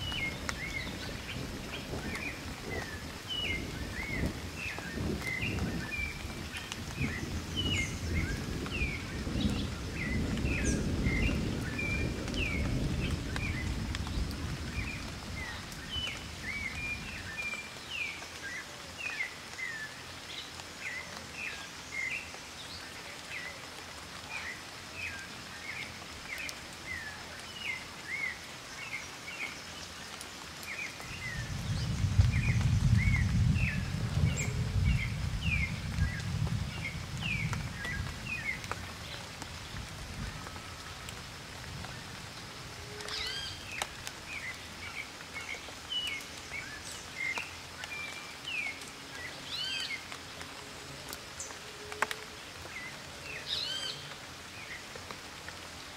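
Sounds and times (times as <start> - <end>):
steady outdoor hiss: 0.0 - 55.9.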